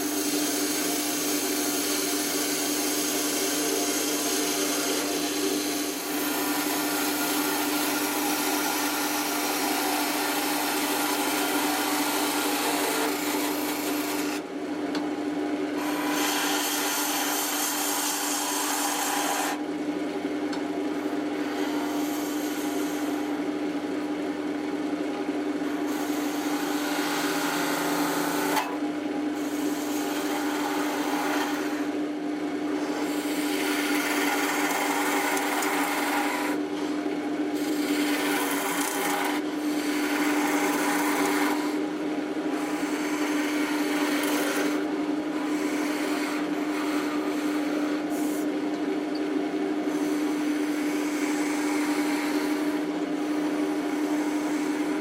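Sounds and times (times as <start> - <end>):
tool rasping on spinning wood: 0.0 - 14.5, 15.8 - 19.6, 21.4 - 23.2, 25.8 - 28.7, 29.4 - 32.0, 32.7 - 36.6, 37.6 - 41.9, 42.5 - 48.5, 49.9 - 55.0
wood lathe humming: 0.0 - 15.0, 15.6 - 19.7, 21.0 - 23.6, 25.5 - 28.7, 29.4 - 36.9, 37.5 - 55.0.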